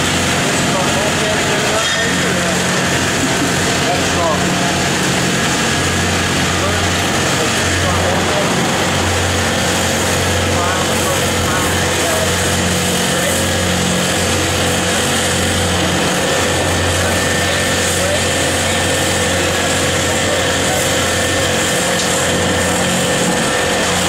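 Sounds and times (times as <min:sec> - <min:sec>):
constant low hum: 0:00.0 - 0:24.0
crane machinery droning: 0:00.0 - 0:24.0.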